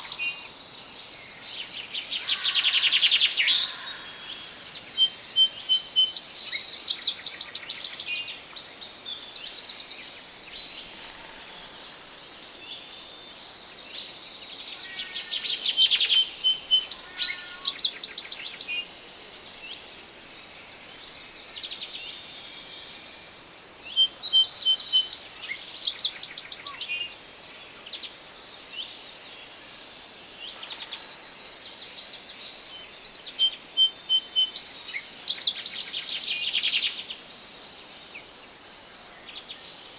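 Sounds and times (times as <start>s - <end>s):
faint forest background hiss: 0.0s - 39.9s
songbirds chirping and trilling: 0.0s - 39.9s.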